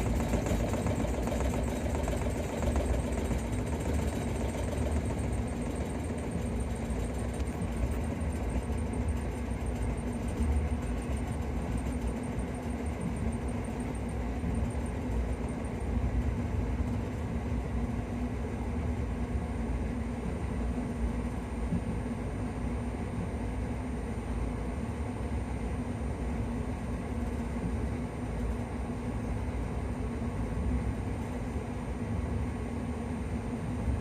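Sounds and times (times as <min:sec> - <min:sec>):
constant hum: 0:00.0 - 0:34.0.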